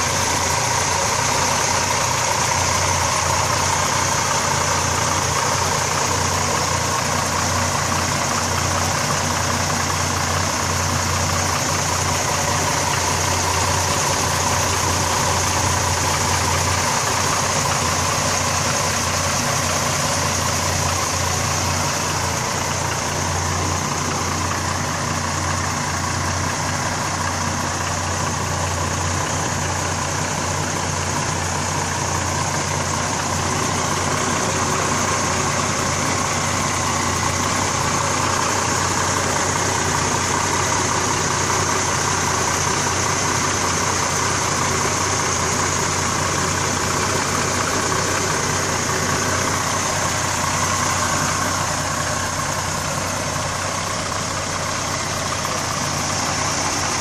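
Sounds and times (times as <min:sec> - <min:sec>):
pickup truck engine idling: 0:00.0 - 0:57.0.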